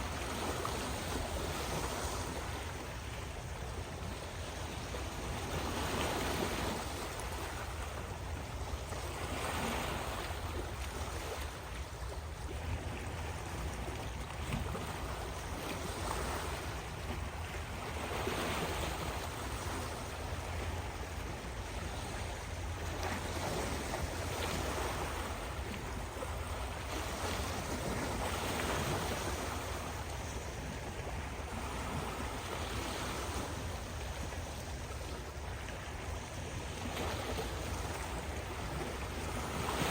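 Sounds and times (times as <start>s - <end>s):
waves breaking and washing in: 0.0s - 39.9s.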